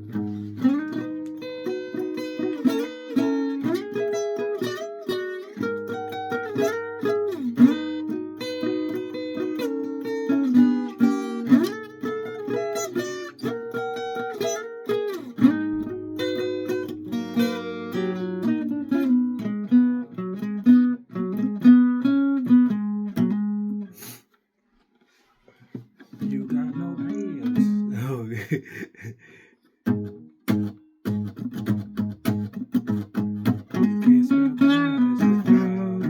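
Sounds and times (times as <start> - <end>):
guitar playing: 0.0 - 24.0, 26.0 - 36.0.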